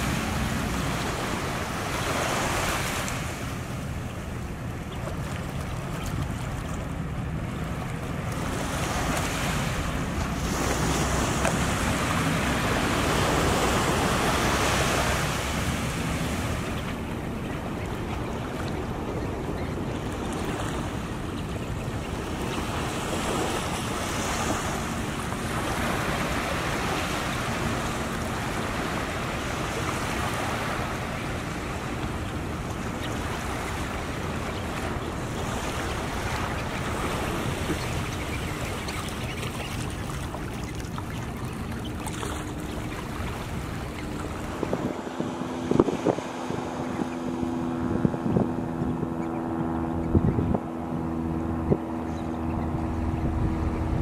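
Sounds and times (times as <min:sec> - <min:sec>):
surf washing on beach: 0:00.0 - 0:50.0.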